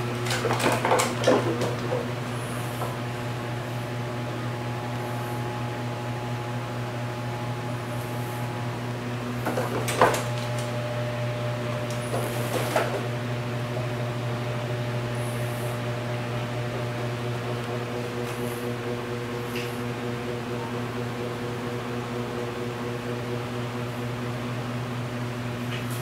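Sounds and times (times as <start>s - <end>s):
appliance humming: 0.0s - 26.0s.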